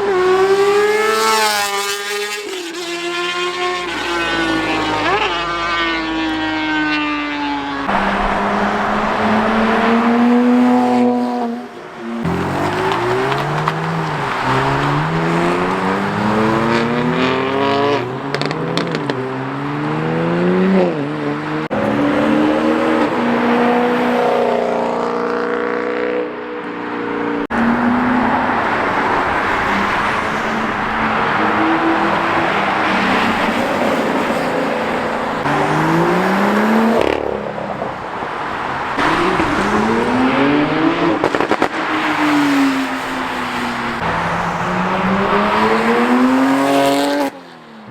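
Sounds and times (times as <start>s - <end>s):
tyre and exhaust noise: 0.0s - 26.8s, 27.5s - 47.9s
car engines revving and accelerating: 0.0s - 47.9s.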